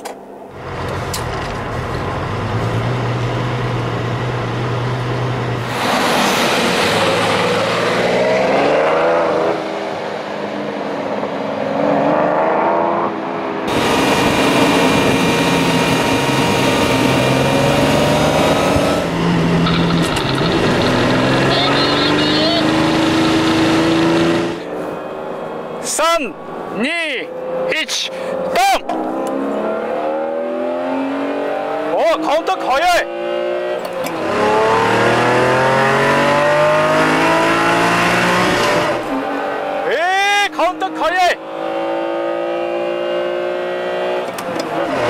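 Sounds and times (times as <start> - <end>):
sports car engines at full throttle: 0.0 - 45.0.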